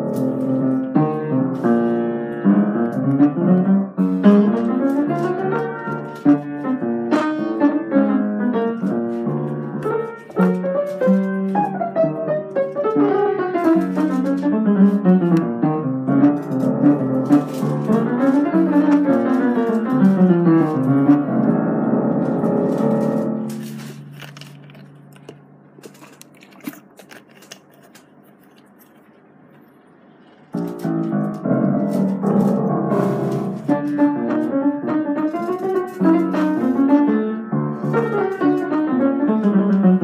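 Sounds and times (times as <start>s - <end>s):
piano music: 0.0s - 26.5s, 30.4s - 40.0s.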